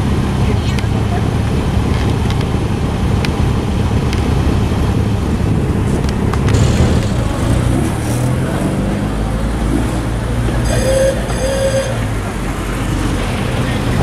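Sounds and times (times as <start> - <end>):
car engines rumbling: 0.0 - 14.0.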